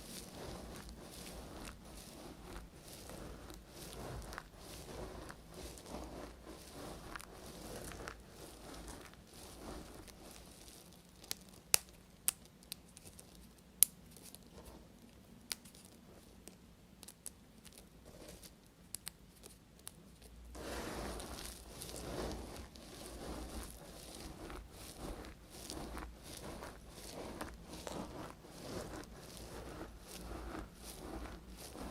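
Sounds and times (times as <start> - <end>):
crumbly scraping and crackling: 0.0 - 31.9.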